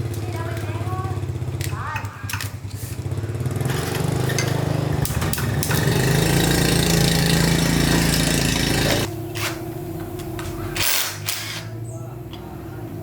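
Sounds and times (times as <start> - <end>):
motorbike engine running: 0.0 - 10.9.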